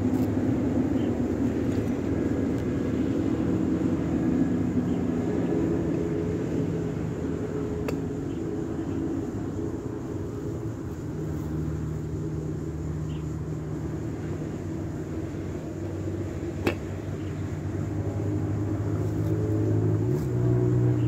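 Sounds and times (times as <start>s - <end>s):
motor engine humming: 0.0s - 21.0s.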